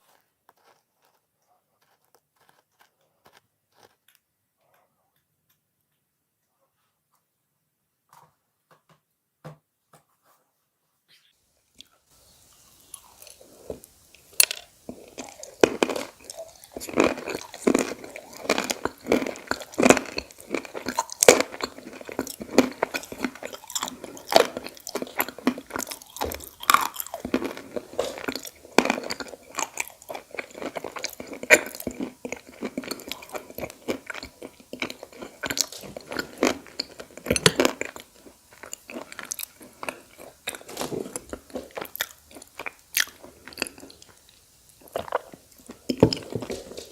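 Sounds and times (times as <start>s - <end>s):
clay being bitten and chewed: 0.0s - 4.8s, 12.8s - 46.7s.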